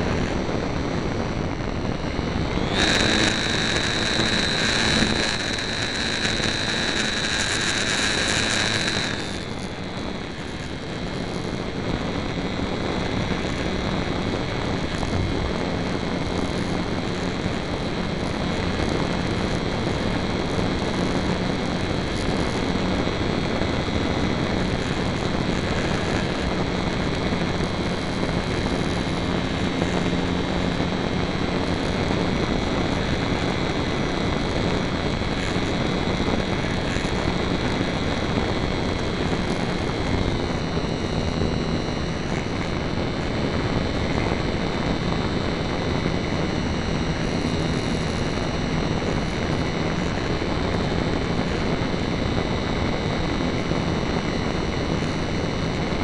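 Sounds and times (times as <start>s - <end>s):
model airplane motor whine: 1.2s - 52.4s.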